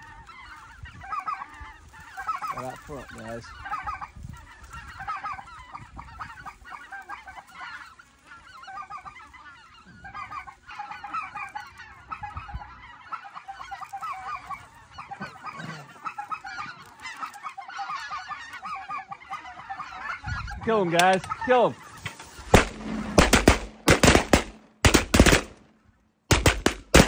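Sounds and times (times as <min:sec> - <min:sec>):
geese honking and yelping: 0:00.0 - 0:27.0.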